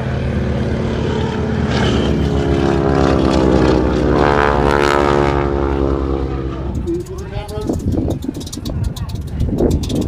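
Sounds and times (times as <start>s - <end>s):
propeller aircraft engine running: 0.0s - 10.0s.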